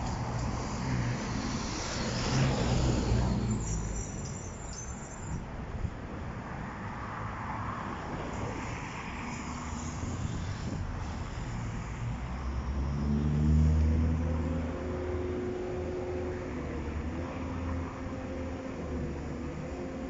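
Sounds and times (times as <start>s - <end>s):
low vehicle engine hum: 0.0s - 6.0s, 9.4s - 20.0s
traffic passing: 0.0s - 20.0s.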